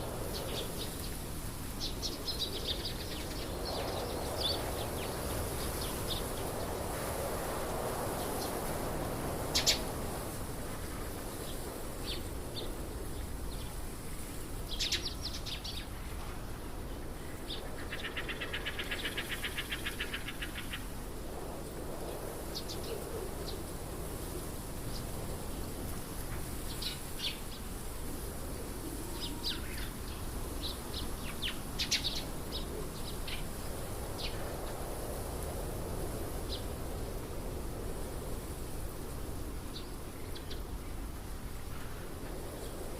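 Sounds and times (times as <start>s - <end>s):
outdoor background: 0.0s - 42.9s.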